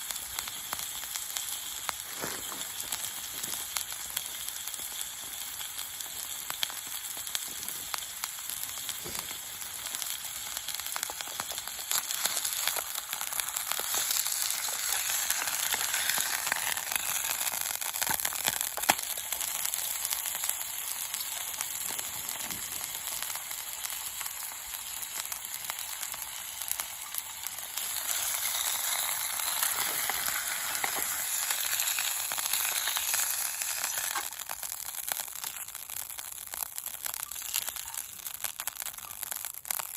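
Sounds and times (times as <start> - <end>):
steak sizzling in a frying pan: 0.0 - 39.9.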